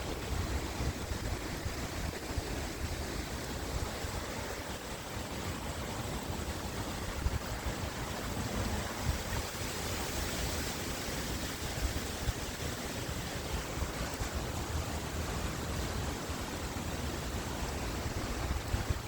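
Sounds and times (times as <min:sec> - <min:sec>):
strong wind blowing: 0:00.0 - 0:16.0, 0:16.9 - 0:19.0
wind buffeting microphone: 0:00.0 - 0:19.0.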